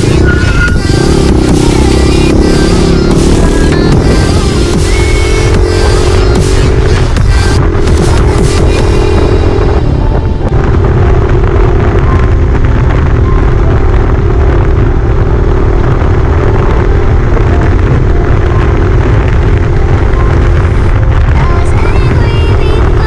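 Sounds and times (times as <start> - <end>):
dirt bike engine running: 0.0 - 23.0
wind rumble on microphone: 0.0 - 23.0.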